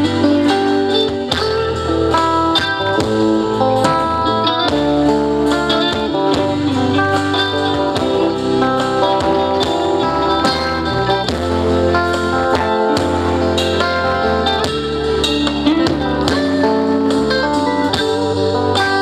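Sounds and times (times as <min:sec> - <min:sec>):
guitar melody: 0:00.0 - 0:19.0
live band playing pop instrumental: 0:00.0 - 0:19.0.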